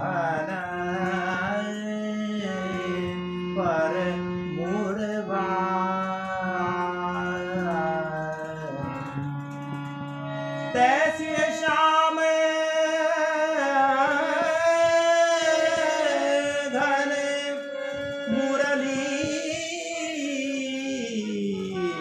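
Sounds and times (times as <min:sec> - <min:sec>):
person singing devotional song: 0:00.0 - 0:22.0.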